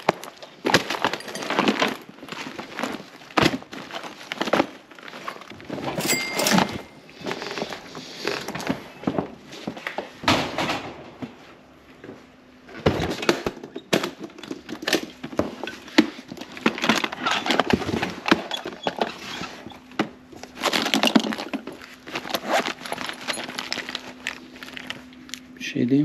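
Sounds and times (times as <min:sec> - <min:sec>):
rustling through case contents: 0:00.0 - 0:10.2, 0:12.7 - 0:25.3.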